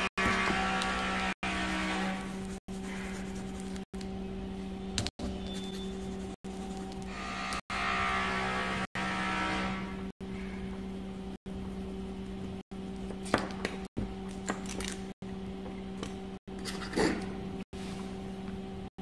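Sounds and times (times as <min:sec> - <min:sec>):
low electrical hum: 0:00.7 - 0:18.9.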